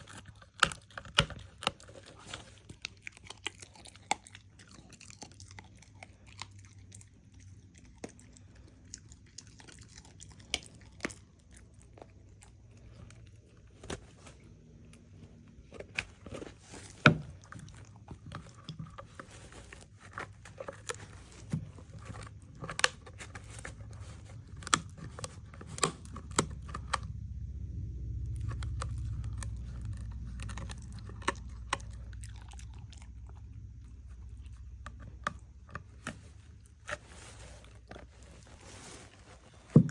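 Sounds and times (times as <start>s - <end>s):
dog chewing and biting: 0.0s - 14.8s, 15.4s - 27.3s, 28.0s - 39.9s
low steady rumble: 0.0s - 39.9s.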